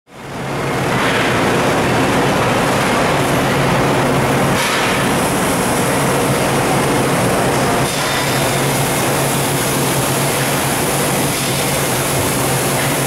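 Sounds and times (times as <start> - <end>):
machine whirring with low hum: 0.1 - 13.0.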